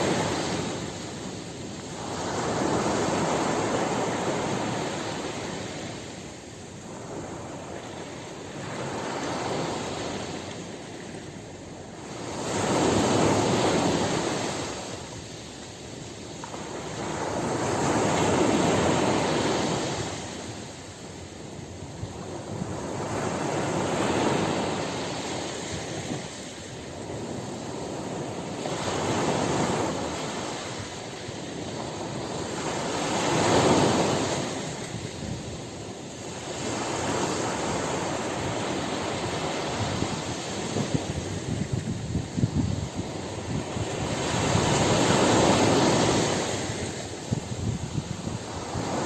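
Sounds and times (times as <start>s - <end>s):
waves breaking on shore: 0.0s - 49.0s.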